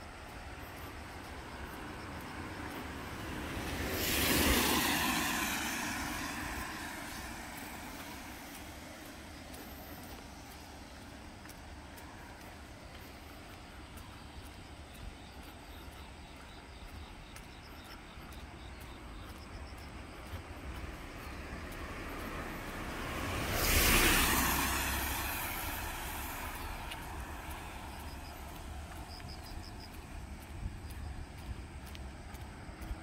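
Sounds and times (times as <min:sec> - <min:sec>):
vehicle passing close by: 0:00.0 - 0:33.0.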